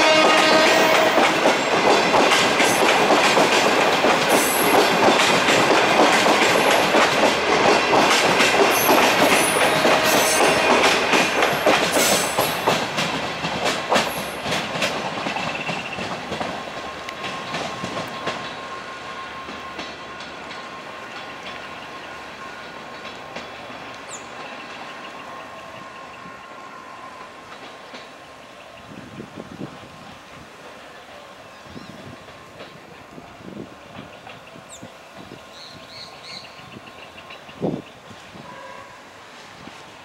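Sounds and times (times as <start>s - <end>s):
train wheels clattering over joints: 0.0s - 24.9s, 27.2s - 28.9s, 31.7s - 38.4s.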